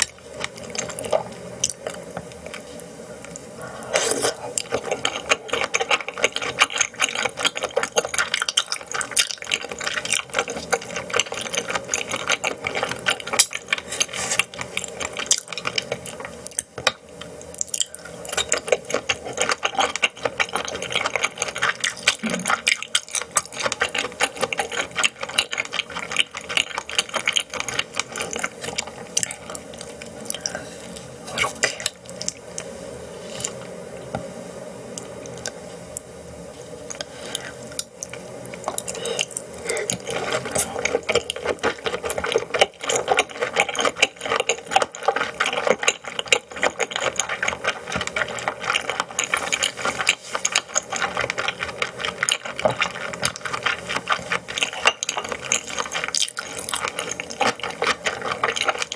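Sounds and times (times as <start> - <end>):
person chewing wetly: 0.0 - 30.6, 36.8 - 58.9.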